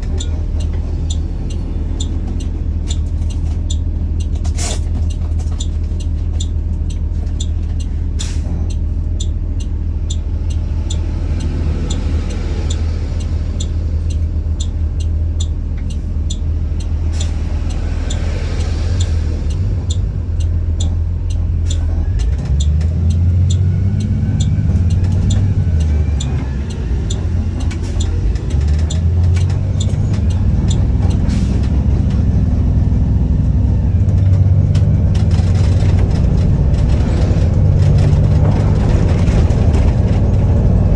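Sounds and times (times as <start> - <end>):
bus engine running: 0.0 - 40.9
regular ticking: 0.0 - 40.9.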